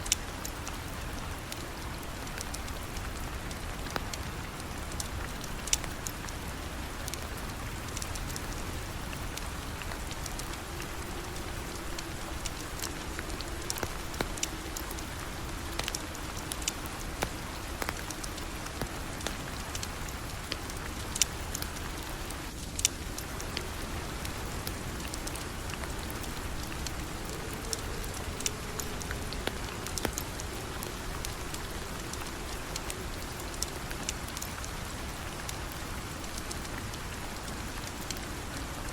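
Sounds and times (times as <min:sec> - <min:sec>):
sharp ticks and pops: 0:00.0 - 0:38.9
steady falling rain: 0:00.0 - 0:38.9.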